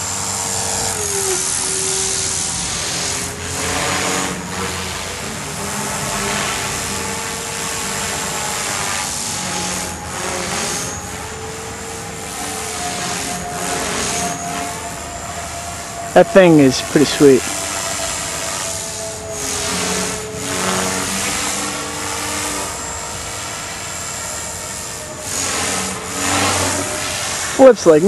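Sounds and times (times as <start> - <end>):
model helicopter engine whining: 0.0 - 28.0
rotor rushing: 0.0 - 28.0.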